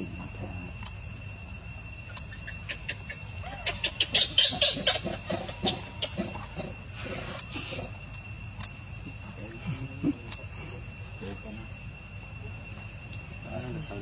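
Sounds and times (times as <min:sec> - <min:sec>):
cricket trilling: 0:00.0 - 0:14.0.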